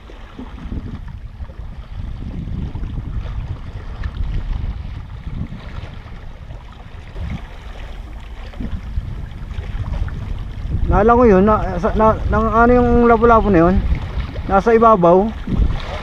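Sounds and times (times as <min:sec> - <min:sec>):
sea water lapping: 0:00.0 - 0:16.0
wind rumbling on microphone: 0:00.0 - 0:16.0.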